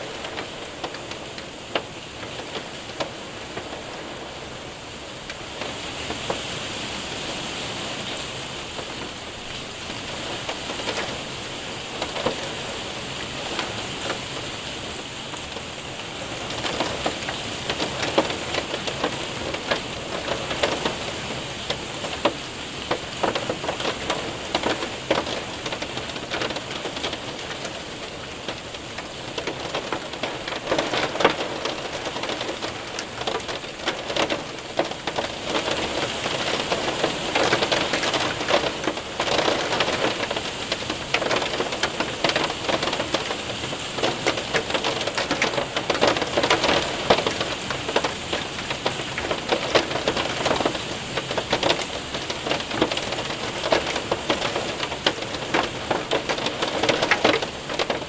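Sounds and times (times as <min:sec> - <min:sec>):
rain and hail on window and roof: 0:00.0 - 0:58.0.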